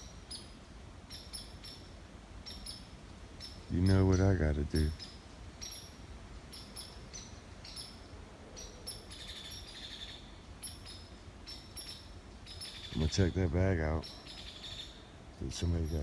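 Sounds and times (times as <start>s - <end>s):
low steady background rush: 0.0s - 16.0s
small birds chirping: 0.0s - 16.0s.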